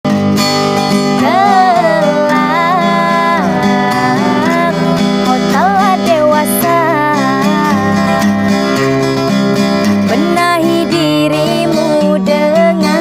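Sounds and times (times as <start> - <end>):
acoustic guitar chords: 0.0 - 13.0
high voice singing: 1.1 - 13.0.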